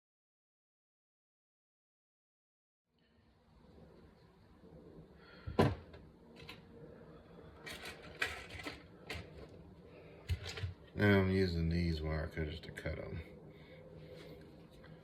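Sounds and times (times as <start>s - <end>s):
steady low hum: 3.0s - 15.0s.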